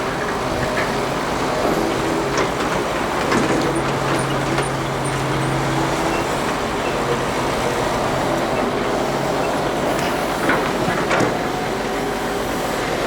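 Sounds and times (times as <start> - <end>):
excavator engine and hydraulics: 0.0 - 13.0.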